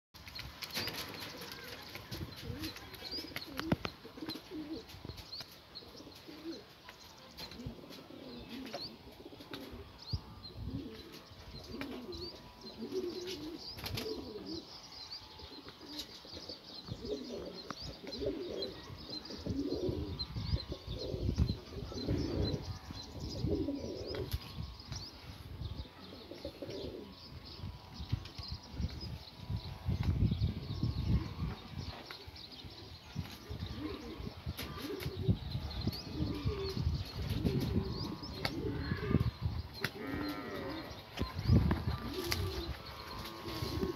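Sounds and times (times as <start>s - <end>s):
small birds chirping: 0.2s - 43.9s
pigeons cooing: 0.8s - 5.2s, 5.8s - 6.7s, 7.4s - 14.8s, 15.4s - 43.9s.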